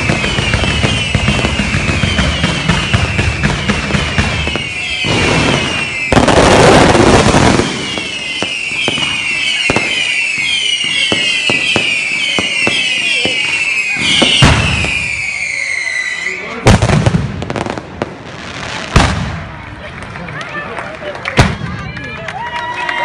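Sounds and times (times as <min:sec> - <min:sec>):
fireworks popping: 0:00.0 - 0:15.9, 0:16.6 - 0:20.6, 0:21.2 - 0:22.1
fireworks crackling burst: 0:00.0 - 0:19.8
whistling fireworks: 0:00.0 - 0:19.8.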